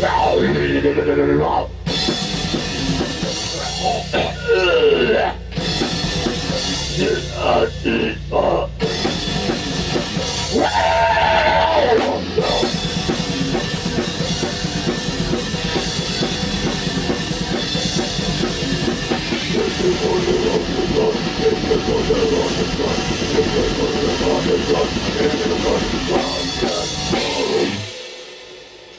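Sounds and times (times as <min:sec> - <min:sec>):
distorted instruments: 0:00.0 - 0:28.2
drum kit with bass drum: 0:00.0 - 0:28.9.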